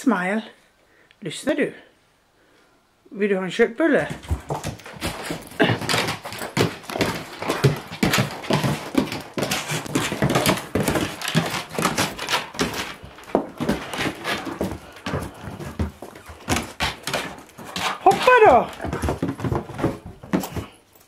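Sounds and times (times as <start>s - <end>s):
dog claws clattering on wooden floor: 4.1s - 21.0s.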